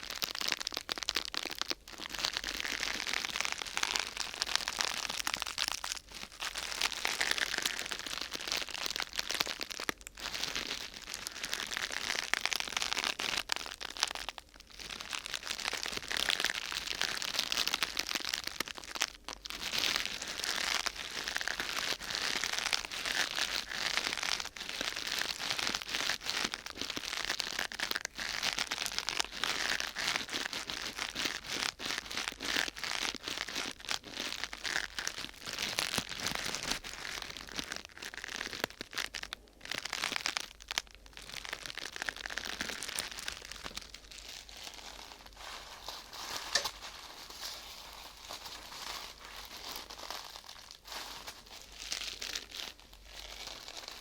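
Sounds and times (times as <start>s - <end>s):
crinkling material being crumpled: 0.0s - 54.0s.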